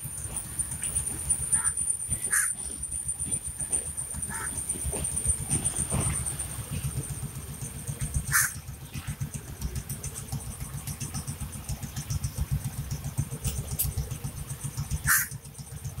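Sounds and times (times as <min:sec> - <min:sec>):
motorcycle and scooter engines idling: 0:00.0 - 0:16.0.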